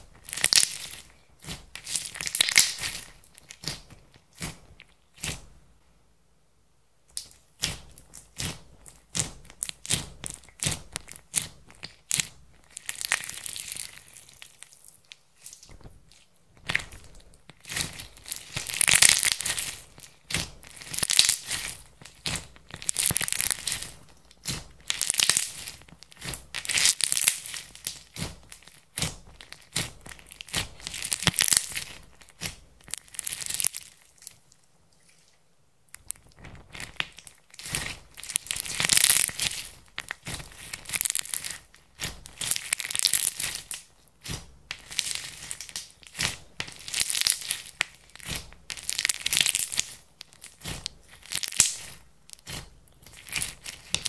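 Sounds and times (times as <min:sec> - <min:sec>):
slime crackling and clicking: 0:00.2 - 0:05.4, 0:07.1 - 0:34.4, 0:35.9 - 0:54.0.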